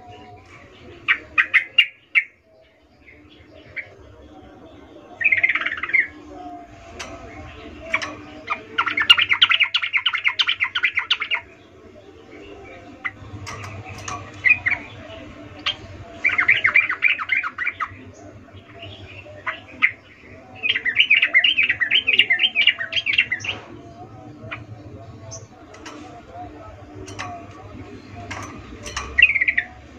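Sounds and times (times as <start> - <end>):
bulbul chattering song: 0.0 - 29.9.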